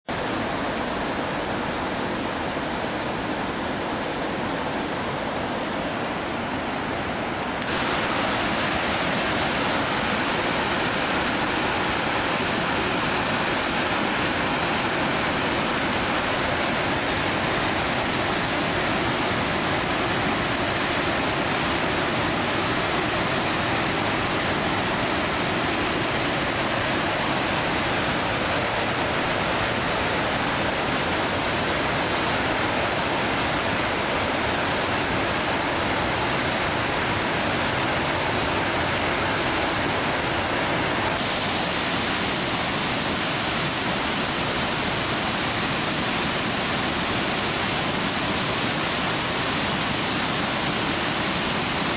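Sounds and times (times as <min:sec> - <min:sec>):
waterfall rushing: 0:00.1 - 0:51.9.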